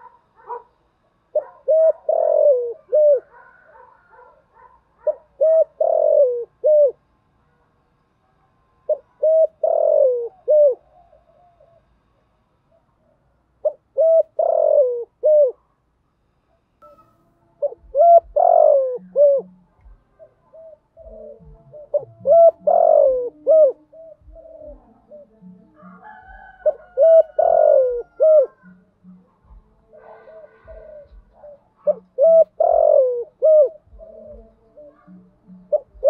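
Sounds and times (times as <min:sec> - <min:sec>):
dove cooing: 0:00.0 - 0:07.1, 0:08.8 - 0:12.0, 0:13.0 - 0:15.6, 0:17.6 - 0:36.0.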